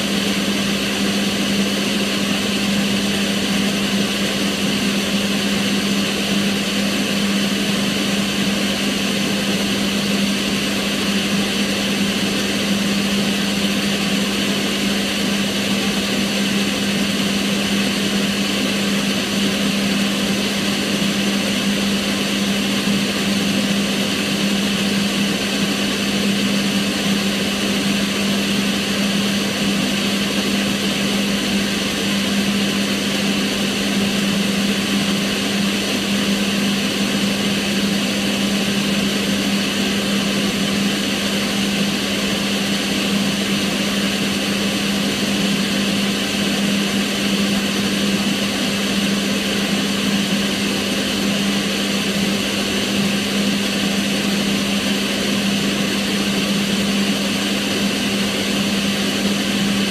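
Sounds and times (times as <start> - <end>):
extractor fan running: 0.0 - 59.9.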